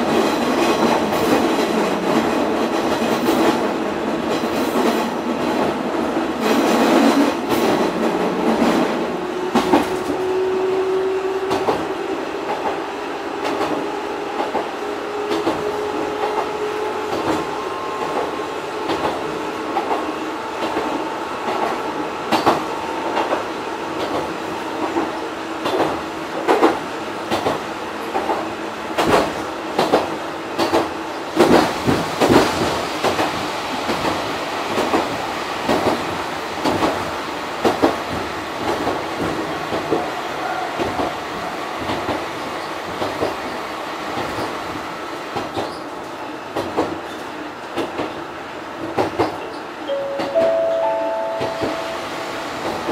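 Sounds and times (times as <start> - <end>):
electric railcar whine: 0.0 - 52.9.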